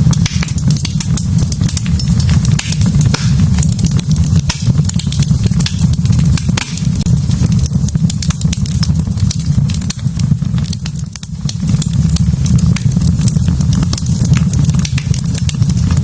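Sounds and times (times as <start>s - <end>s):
logs crackling and popping: 0.0s - 16.0s
low rumble of flame: 0.0s - 16.0s.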